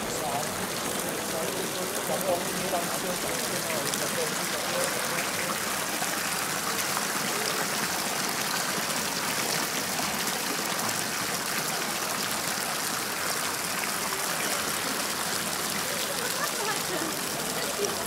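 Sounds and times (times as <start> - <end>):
fountain water splashing into basin: 0.0 - 18.0.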